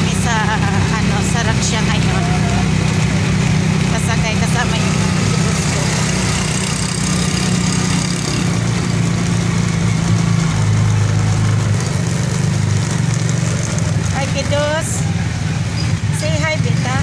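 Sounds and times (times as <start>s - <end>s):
motor rickshaw engine drone: 0.0s - 17.0s.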